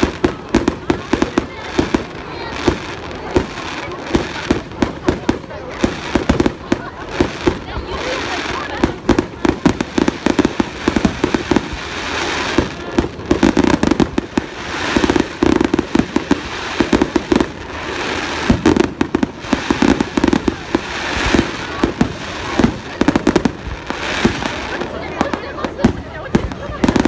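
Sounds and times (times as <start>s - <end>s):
fireworks bursting with sharp bangs: 0.0s - 27.0s
fireworks crackling hiss: 0.0s - 27.0s.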